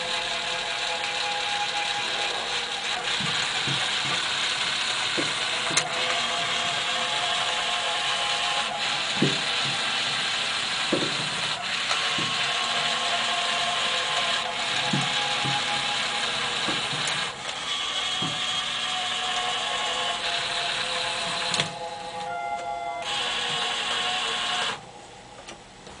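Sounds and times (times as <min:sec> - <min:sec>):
gear motors grinding and ratcheting: 0:00.0 - 0:22.2, 0:23.0 - 0:24.8.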